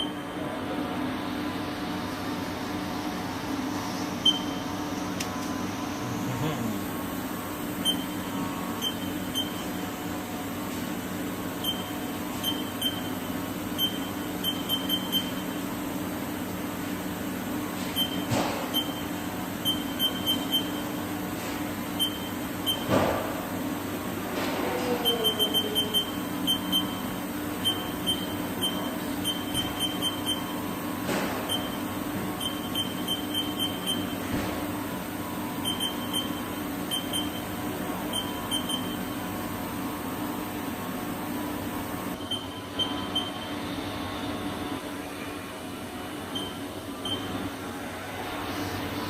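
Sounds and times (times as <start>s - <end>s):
machine electrical hum: 0.0s - 49.0s.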